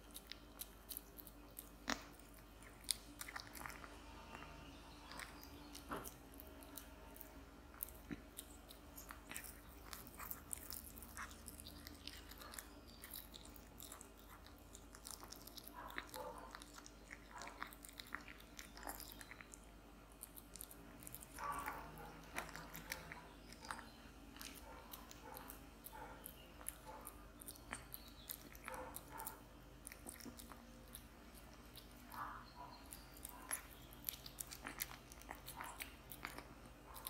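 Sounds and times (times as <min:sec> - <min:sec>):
cat chewing and biting: 0:00.0 - 0:37.0.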